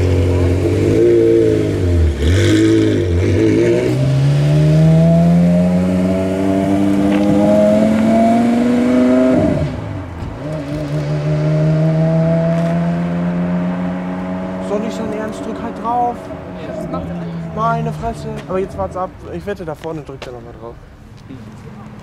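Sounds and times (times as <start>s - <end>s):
car engine revving: 0.0s - 19.3s.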